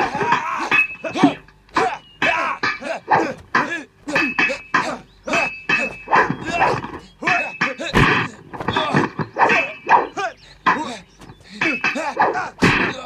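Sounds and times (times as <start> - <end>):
fighters shouting and grunting: 0.0 - 13.0
thin high ringing tone: 0.3 - 13.0.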